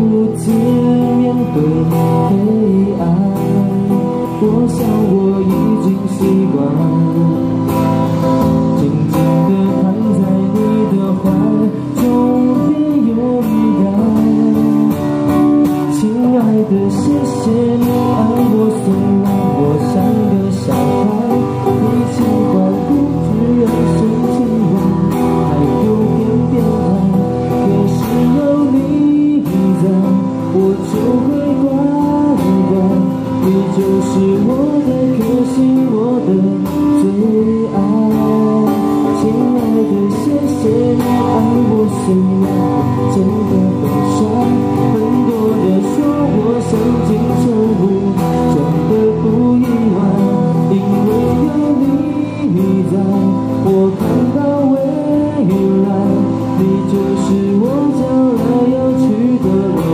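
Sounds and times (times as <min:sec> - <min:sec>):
acoustic guitar strumming: 0:00.0 - 0:59.9
man singing into a microphone: 0:00.0 - 0:59.9.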